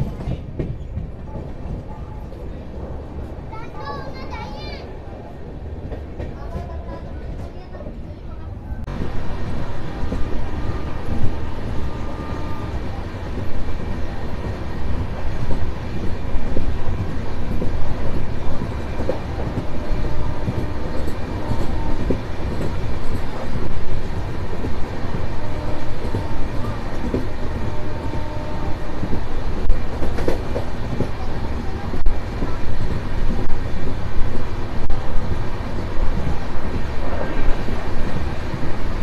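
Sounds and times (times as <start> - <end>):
faint ticks of wheels on rail joints: 0.0 - 39.0
train wheels rumbling on rails: 0.0 - 39.0.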